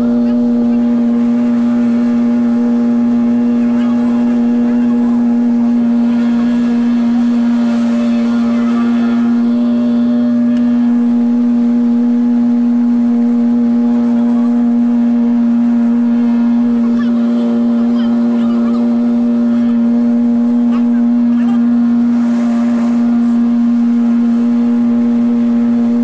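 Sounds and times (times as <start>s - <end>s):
motorboat engine droning: 0.0s - 26.0s.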